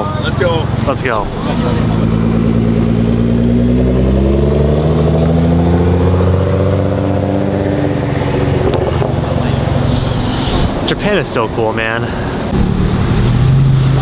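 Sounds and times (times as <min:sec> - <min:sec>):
car engine accelerating: 0:00.0 - 0:11.0, 0:12.1 - 0:14.0.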